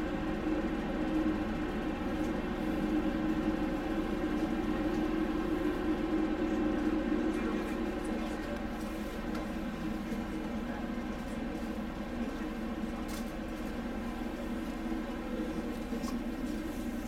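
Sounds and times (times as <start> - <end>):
ship machinery humming: 0.0 - 17.0.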